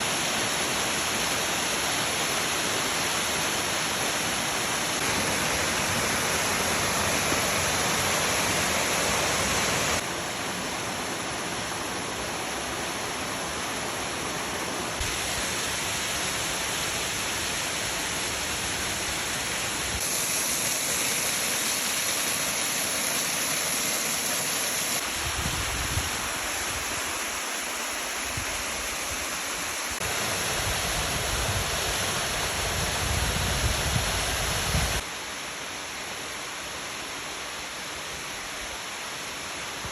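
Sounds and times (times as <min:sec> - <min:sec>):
waterfall rushing: 0:00.0 - 0:35.1.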